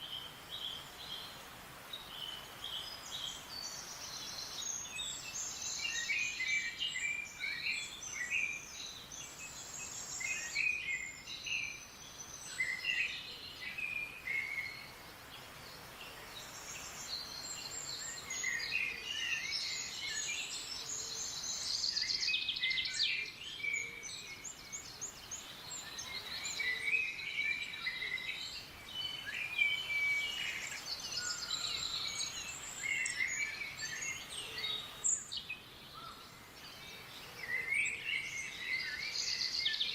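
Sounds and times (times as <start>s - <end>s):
background hiss: 0.0s - 39.9s
songbirds chirping and singing: 0.0s - 39.9s.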